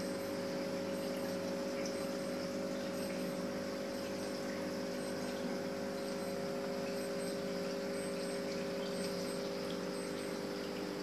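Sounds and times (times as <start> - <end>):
pump motor hum: 0.0 - 11.0
water trickling: 0.0 - 11.0.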